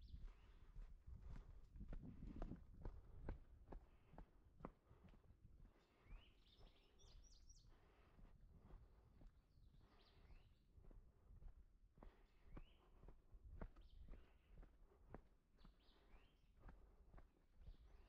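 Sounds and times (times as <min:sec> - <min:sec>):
faint songbird song: 0:00.0 - 0:02.0, 0:03.8 - 0:18.0.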